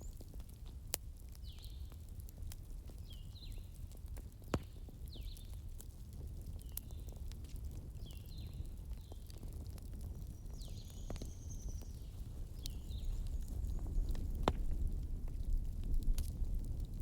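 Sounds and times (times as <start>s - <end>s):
bonfire rumbling: 0.0s - 17.0s
fire crackling and popping: 0.0s - 17.0s.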